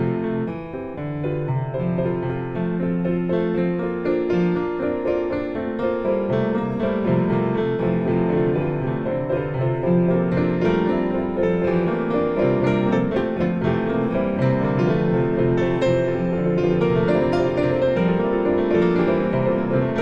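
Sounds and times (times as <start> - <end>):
instrumental piano music: 0.0 - 20.0.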